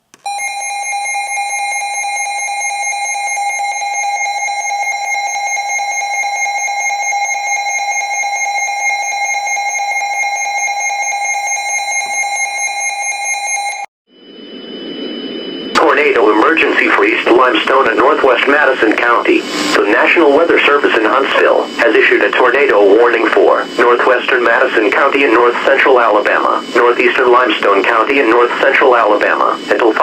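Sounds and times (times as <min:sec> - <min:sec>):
steady electronic alarm tone: 0:00.2 - 0:30.0.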